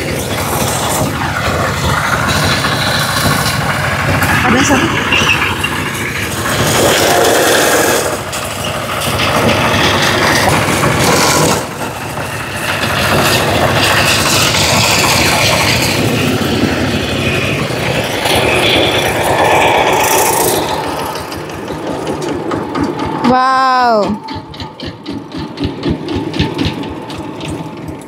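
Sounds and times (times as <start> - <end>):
diesel engine mowing grass: 0.0 - 28.0.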